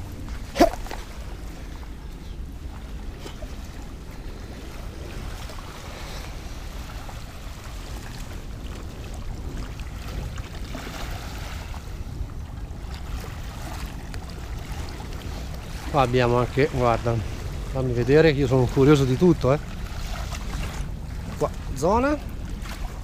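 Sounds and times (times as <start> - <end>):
small waves lapping at shore: 0.0 - 23.0
wind on microphone: 0.0 - 23.0.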